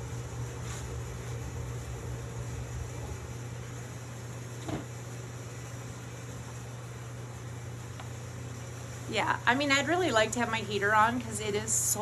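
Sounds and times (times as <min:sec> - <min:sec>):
heater humming: 0:00.0 - 0:12.0.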